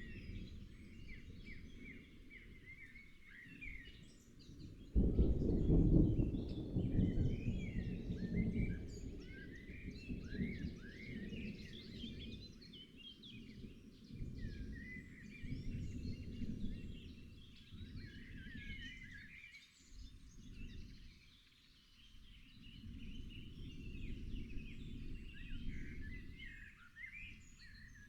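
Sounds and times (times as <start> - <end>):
songbirds chirping and singing: 0.0 - 28.0.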